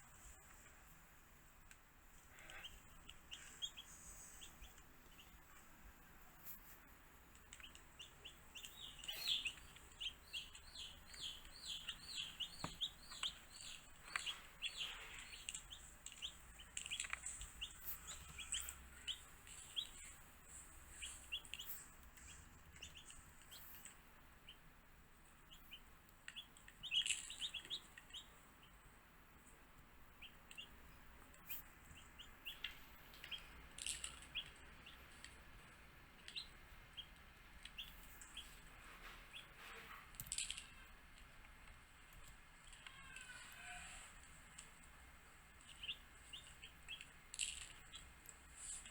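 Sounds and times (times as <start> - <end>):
baby chicks peeping: 2.0 - 48.9.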